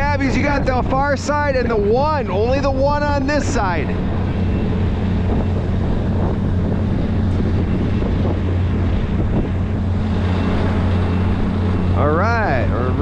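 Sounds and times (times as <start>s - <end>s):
boat engine idling: 0.0s - 13.0s
wind buffeting microphone: 0.0s - 13.0s.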